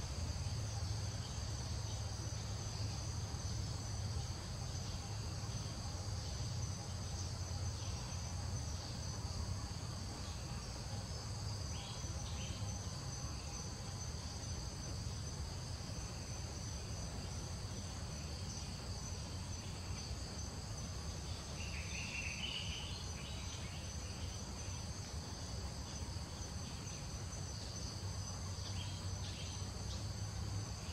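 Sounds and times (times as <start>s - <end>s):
insect chorus drone: 0.0s - 30.9s.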